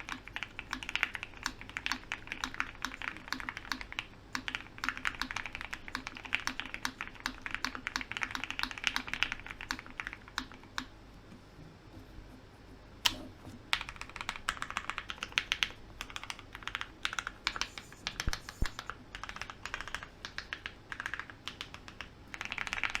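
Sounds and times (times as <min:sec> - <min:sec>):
mechanical keyboard typing: 0:00.0 - 0:10.9, 0:13.1 - 0:23.0.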